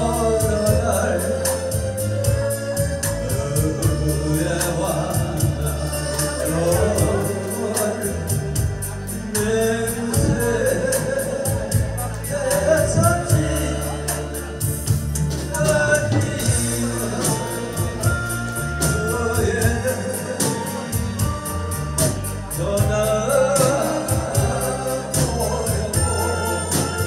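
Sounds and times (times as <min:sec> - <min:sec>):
band accompaniment: 0:00.0 - 0:27.0
drums keeping steady beat: 0:00.0 - 0:27.0
man singing into microphone: 0:00.0 - 0:27.0.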